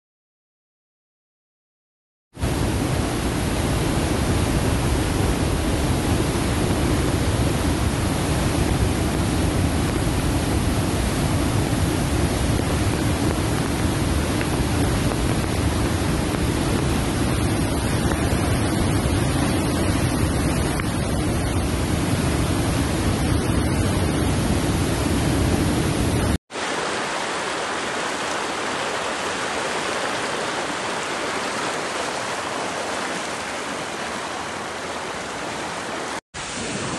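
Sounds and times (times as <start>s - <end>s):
water rushing over rocks: 2.4s - 36.9s.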